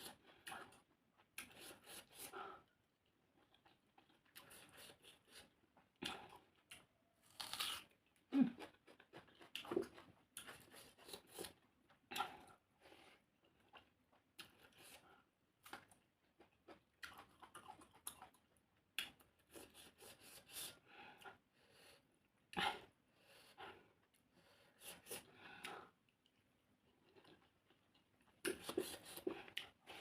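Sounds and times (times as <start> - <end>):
person chewing food: 0.0 - 21.5, 23.6 - 30.0.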